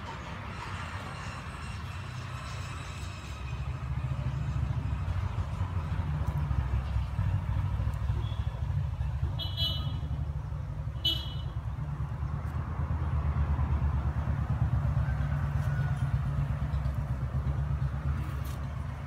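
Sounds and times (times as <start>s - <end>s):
scooter engine idling: 3.6s - 19.0s.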